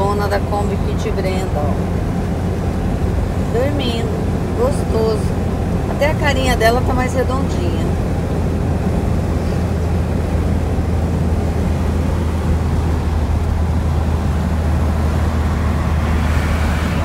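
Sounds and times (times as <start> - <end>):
vehicle rumble from inside cabin: 0.0 - 17.0.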